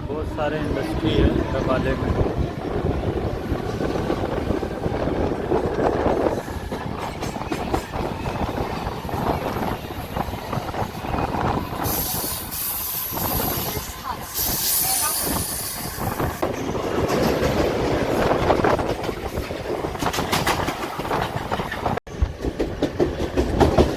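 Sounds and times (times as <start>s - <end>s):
train carriage rumbling on rails: 0.0s - 23.9s.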